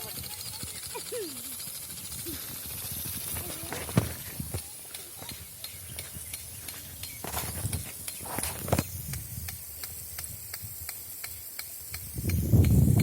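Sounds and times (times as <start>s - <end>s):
sprinkler arm ticking: 0.0s - 13.0s
sprinkler water hiss: 0.0s - 13.0s.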